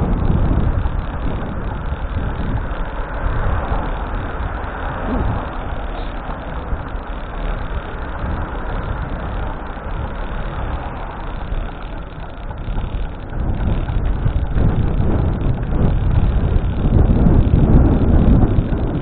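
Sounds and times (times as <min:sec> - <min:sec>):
road traffic noise: 0:00.0 - 0:19.0
wind on microphone: 0:00.0 - 0:19.0.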